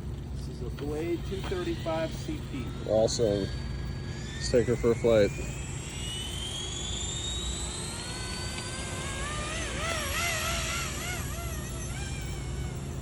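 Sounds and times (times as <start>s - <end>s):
electric helicopter rotor whine: 0.0s - 13.0s
low hum: 0.0s - 13.0s.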